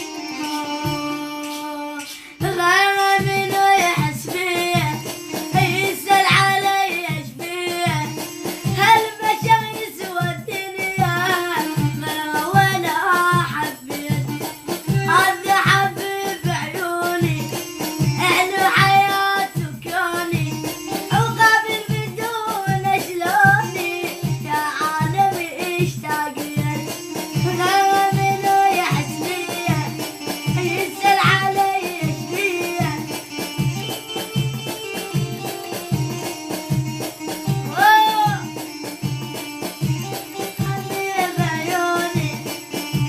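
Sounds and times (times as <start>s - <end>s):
child singing: 0.0s - 33.8s, 37.7s - 38.5s, 40.3s - 43.0s
low percussion beat: 0.0s - 43.0s.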